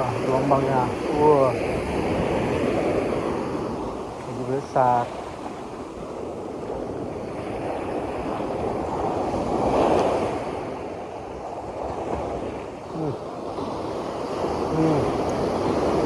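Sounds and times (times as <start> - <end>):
sea waves breaking on shore: 0.0 - 16.0
wind buffeting microphone: 0.0 - 16.0.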